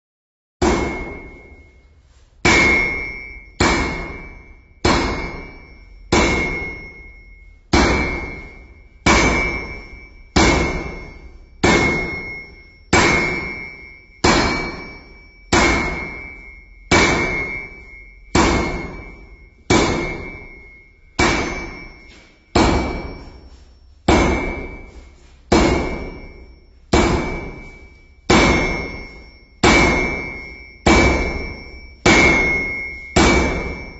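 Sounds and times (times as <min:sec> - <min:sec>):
sledgehammer striking steel anvil: 0:00.6 - 0:33.9.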